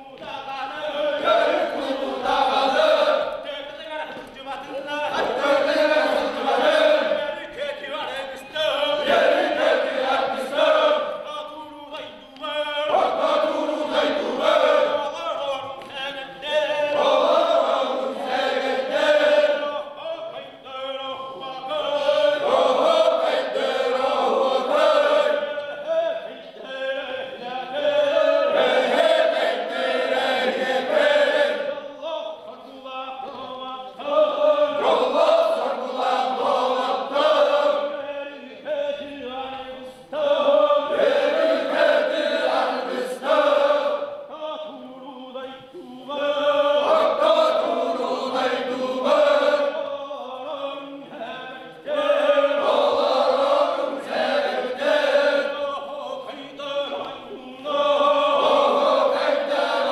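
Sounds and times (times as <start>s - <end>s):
group of men chanting: 0.5s - 3.5s, 4.7s - 11.3s, 12.0s - 15.3s, 16.3s - 20.0s, 20.9s - 32.3s, 33.2s - 45.5s, 46.1s - 49.9s, 50.5s - 59.9s.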